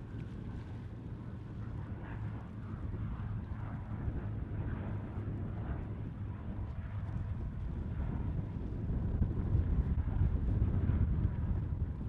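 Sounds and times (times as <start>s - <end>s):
turboprop engines rumbling: 0.0s - 12.0s.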